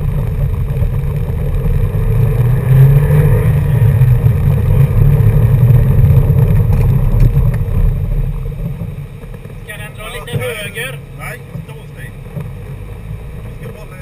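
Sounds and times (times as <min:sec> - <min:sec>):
car engine running hard: 0:00.0 - 0:14.0
gravel road noise: 0:00.0 - 0:14.0.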